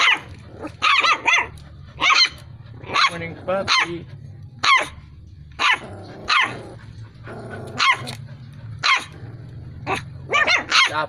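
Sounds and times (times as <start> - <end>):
puppy yapping: 0.0 - 5.0, 5.6 - 6.8, 7.4 - 9.2, 9.8 - 11.0.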